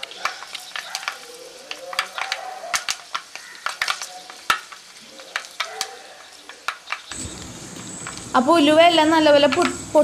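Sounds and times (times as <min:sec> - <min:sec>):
seeds sizzling and popping in hot oil: 0:00.0 - 0:10.0.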